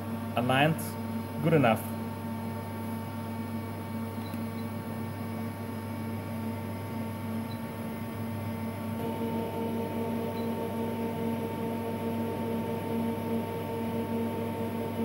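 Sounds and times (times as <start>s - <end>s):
machine electric hum and whine: 0.0s - 15.0s.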